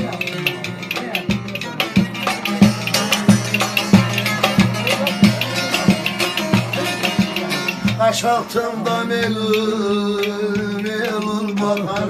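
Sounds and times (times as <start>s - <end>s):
plucked string notes: 0.0s - 12.0s
steady drum beat: 0.0s - 12.0s.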